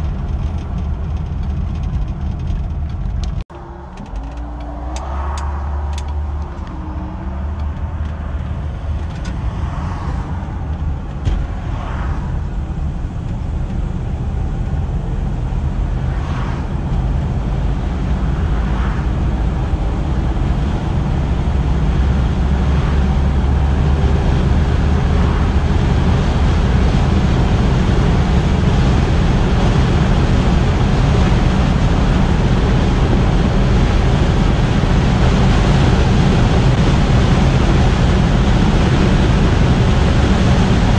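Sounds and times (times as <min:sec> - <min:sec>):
car engine low rumble: 0:00.0 - 0:40.9
tyre and wind noise: 0:00.0 - 0:40.9.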